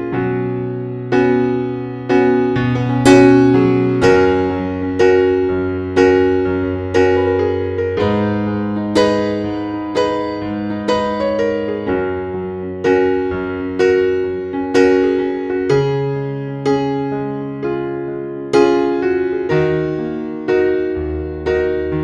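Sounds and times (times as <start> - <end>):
gentle slow piano: 0.0 - 22.0.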